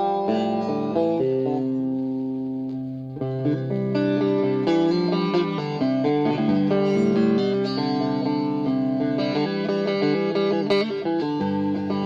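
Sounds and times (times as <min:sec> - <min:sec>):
electric guitar with chorus effect: 0:00.0 - 0:12.0.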